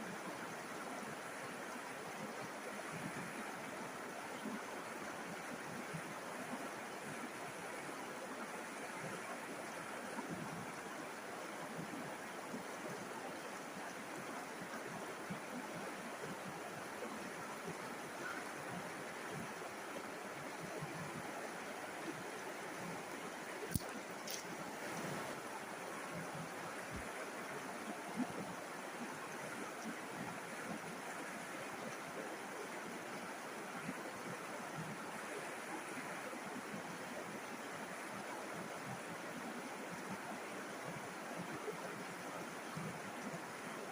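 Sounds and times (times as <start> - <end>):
river water babbling: 0.0 - 43.9.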